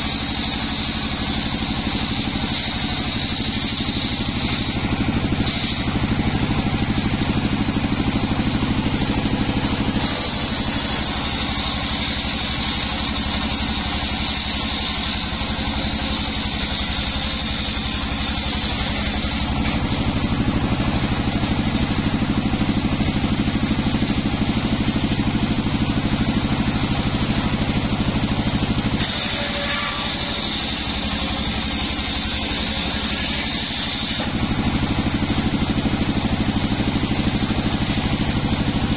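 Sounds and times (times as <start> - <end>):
saw blade cutting wood: 0.0 - 22.4, 26.6 - 35.6
saw engine running: 0.0 - 38.9.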